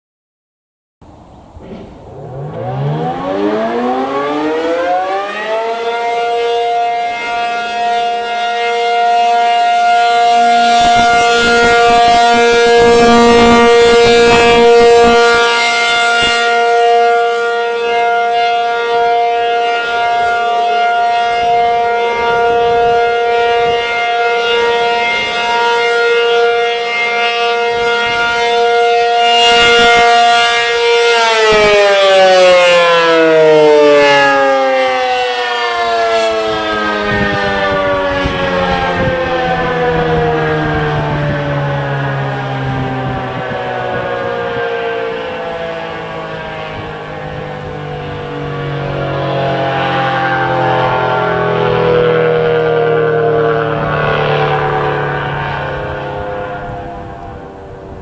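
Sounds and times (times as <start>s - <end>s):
warning siren steady tone: 2.0s - 58.0s.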